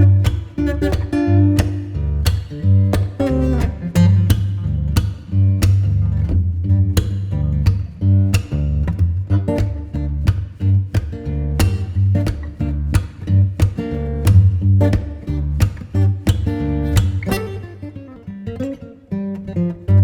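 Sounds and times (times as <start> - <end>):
bass line with beat: 0.0 - 17.5
acoustic guitar: 0.0 - 20.0.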